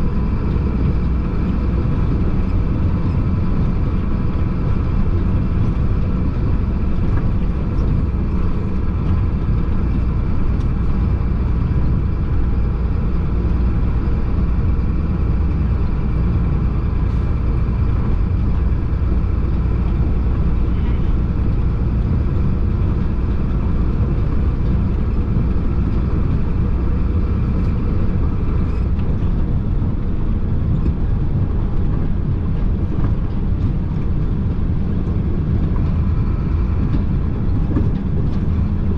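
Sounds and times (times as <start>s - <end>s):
heavy truck engine drone: 0.0s - 38.9s
road noise: 0.0s - 38.9s.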